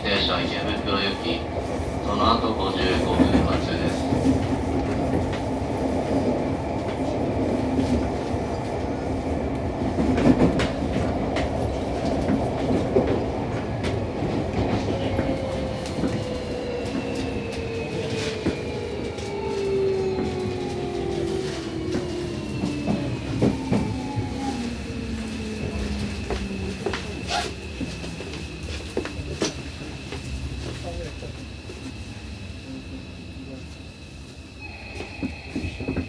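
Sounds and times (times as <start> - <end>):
train rolling noise: 0.0 - 36.0.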